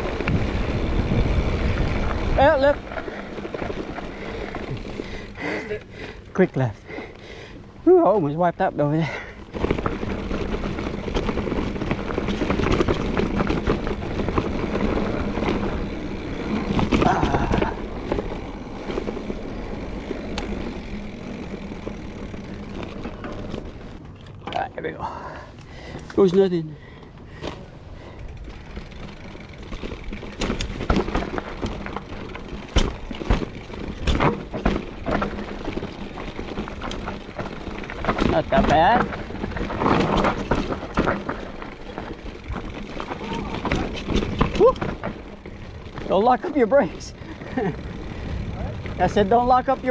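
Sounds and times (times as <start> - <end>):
bike rattles and knocks: 0.0 - 7.2, 8.1 - 49.9
bike tyre rumble on dirt: 0.0 - 49.9.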